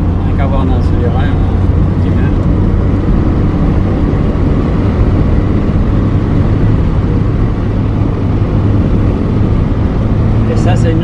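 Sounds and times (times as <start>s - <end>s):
car engine cruising: 0.0s - 11.0s
road noise: 0.0s - 11.0s
wind noise: 1.6s - 11.0s.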